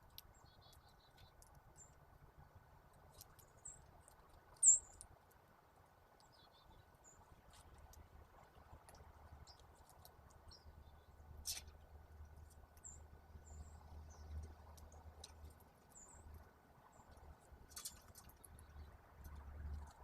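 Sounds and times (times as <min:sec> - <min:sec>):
songbird chirps: 0:00.0 - 0:20.0.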